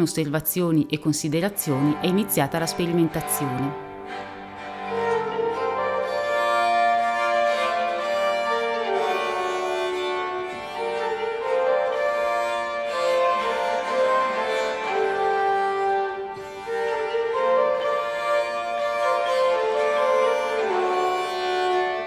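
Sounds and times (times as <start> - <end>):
bowed string instrument: 0.0 - 22.0
portative organ: 0.0 - 22.0.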